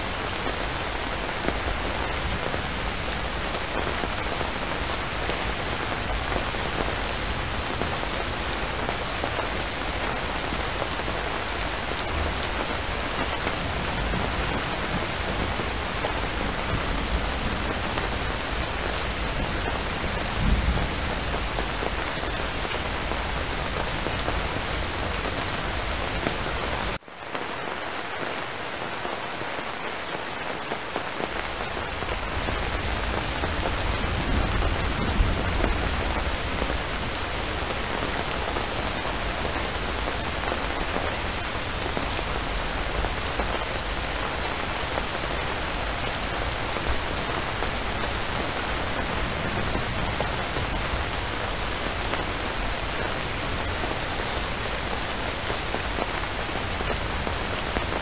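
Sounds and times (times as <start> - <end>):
dense rainfall: 0.0 - 58.0.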